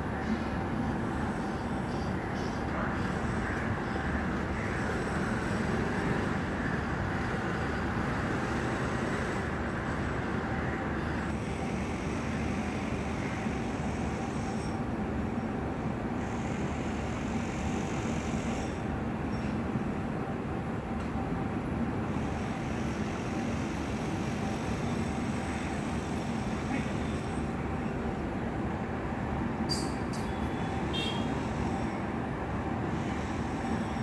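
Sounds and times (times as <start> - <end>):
street traffic rumble: 0.0 - 34.0.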